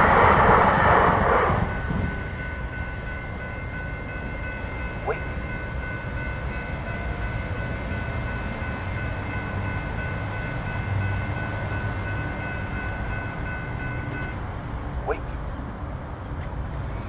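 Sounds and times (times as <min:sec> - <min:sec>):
low rumble of traffic: 0:00.0 - 0:17.0
crossing warning bell ringing: 0:01.1 - 0:15.4.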